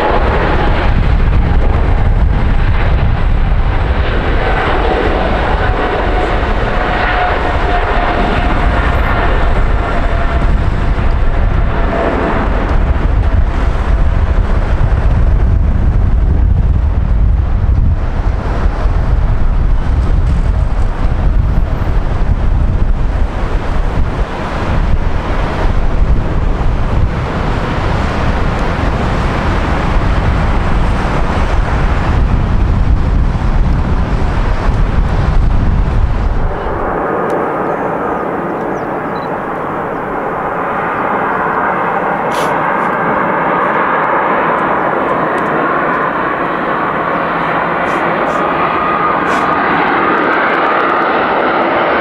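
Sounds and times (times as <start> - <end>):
jet engine high fan whine: 0.0 - 52.0
jet engines deep rumble: 0.0 - 52.0
wind on microphone: 0.0 - 52.0.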